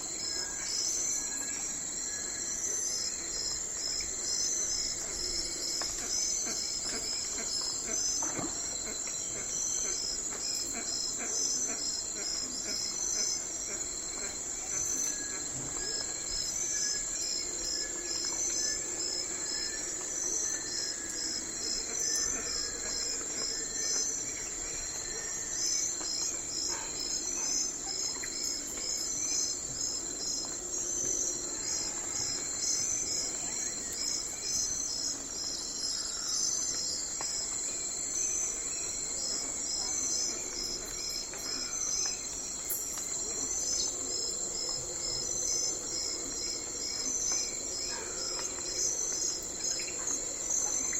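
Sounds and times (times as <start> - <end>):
cricket chirps: 0.0 - 50.9
insects trilling: 0.0 - 50.9.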